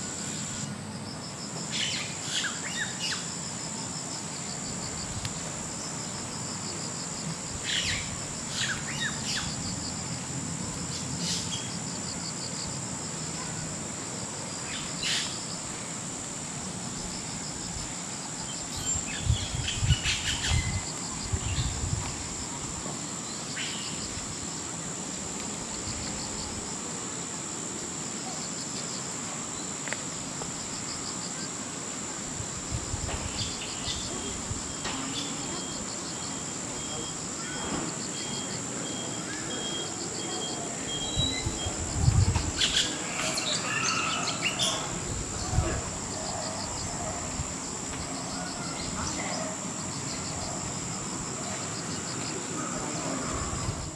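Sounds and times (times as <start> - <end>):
crickets chirping: 0.0 - 53.9
insects trilling: 0.0 - 53.9.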